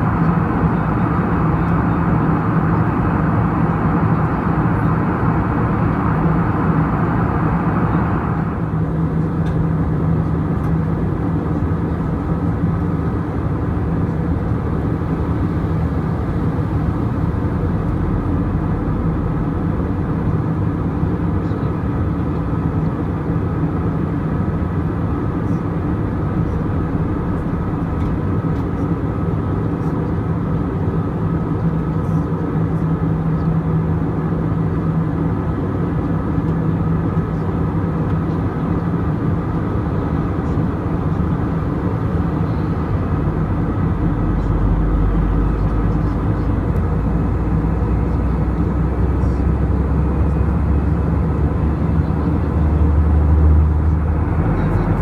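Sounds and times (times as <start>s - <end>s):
jet airliner cabin noise: 0.0s - 55.0s.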